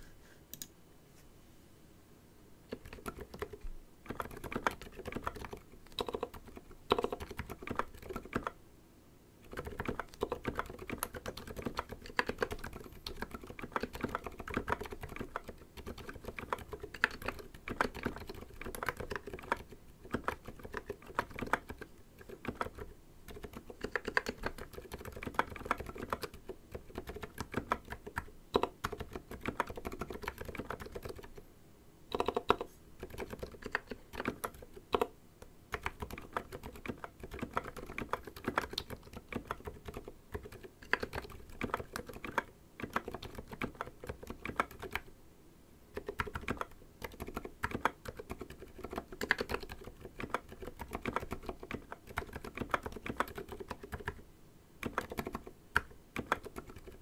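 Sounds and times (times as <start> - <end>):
mechanical keyboard typing clacks: 2.7 - 8.6, 9.4 - 31.4, 32.1 - 35.1, 35.7 - 45.1, 46.0 - 54.2, 54.8 - 57.0.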